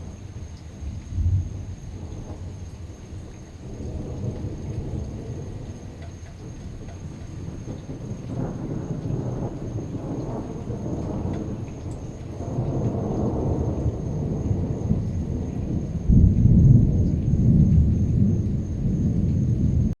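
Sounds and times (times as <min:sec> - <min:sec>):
rain hissing: 0:00.0 - 0:20.0
thunder rumbling: 0:00.0 - 0:20.0
thunder crack: 0:03.8 - 0:20.0.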